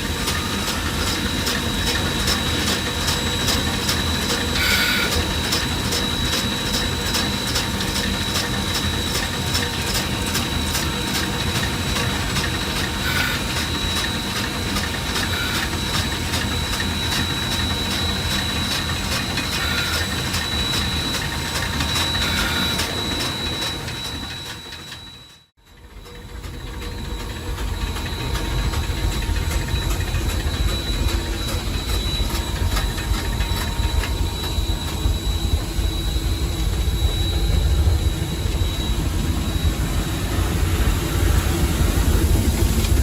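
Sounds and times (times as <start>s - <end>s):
high steady whine: 0.0s - 43.0s
steam locomotive running beat: 0.0s - 43.0s.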